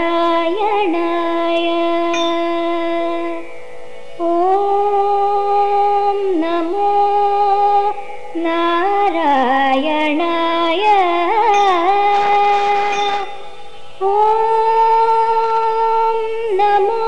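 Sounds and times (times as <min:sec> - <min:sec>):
person singing ornamented phrases: 0:00.0 - 0:03.5, 0:04.2 - 0:17.0
steady drone: 0:00.0 - 0:17.0.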